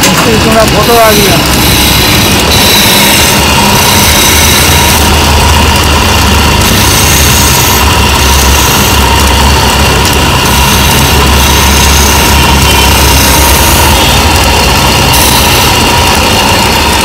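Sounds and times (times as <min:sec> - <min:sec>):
chisel cutting spinning wood: 0:00.0 - 0:17.0
lathe motor hum: 0:00.0 - 0:17.0.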